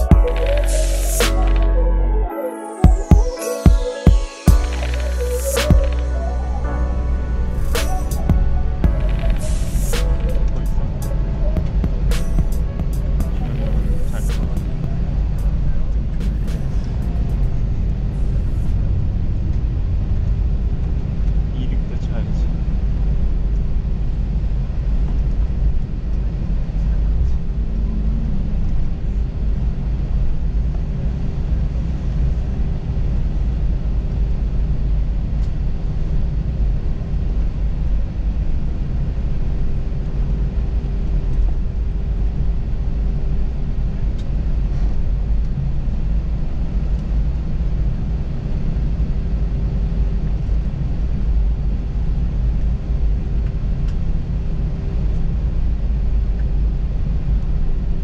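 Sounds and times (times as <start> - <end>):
airliner cabin rumble and hum: 10.3 - 58.0.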